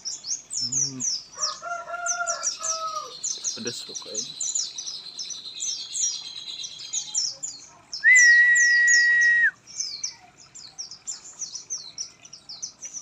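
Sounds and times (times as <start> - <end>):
bird twittering chirps: 0.0 - 13.0.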